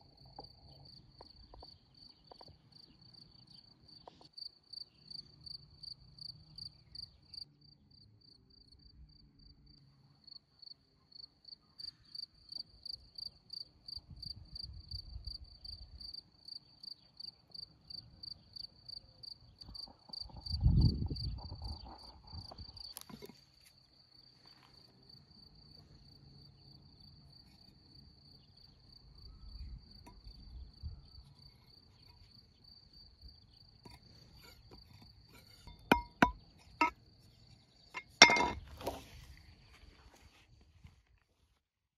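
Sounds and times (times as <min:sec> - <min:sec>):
cricket chirping: 0:00.0 - 0:39.0.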